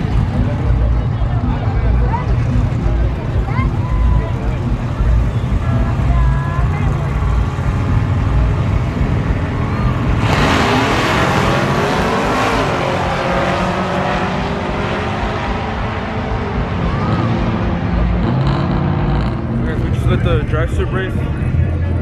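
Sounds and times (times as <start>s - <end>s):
pickup truck engines roaring: 0.0s - 22.0s.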